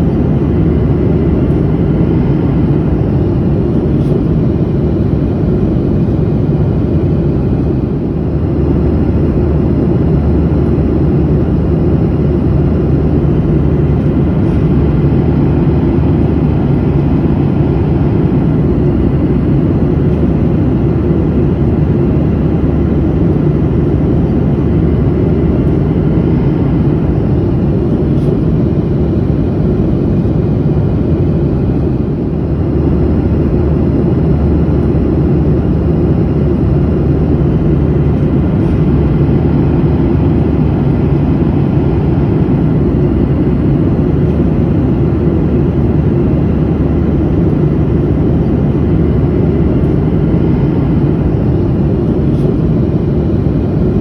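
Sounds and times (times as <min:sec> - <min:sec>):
jet airliner cabin noise: 0:00.0 - 0:54.0.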